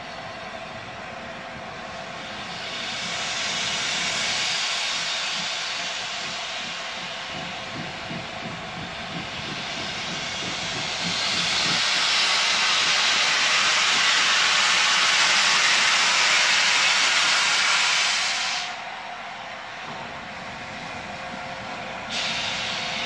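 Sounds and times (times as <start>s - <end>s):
steam locomotive venting steam: 0.0s - 23.0s.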